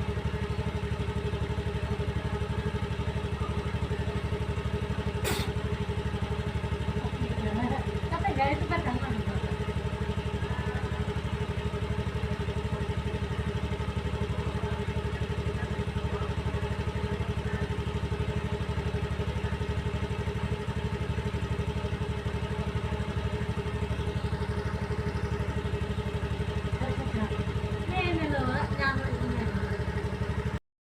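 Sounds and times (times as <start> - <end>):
vehicle engine idling: 0.0 - 30.6.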